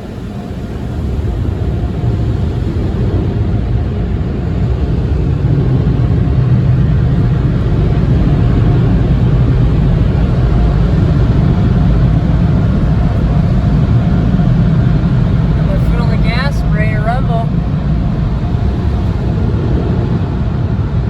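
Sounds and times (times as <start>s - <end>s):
car wash air dryers blowing: 0.0s - 21.0s.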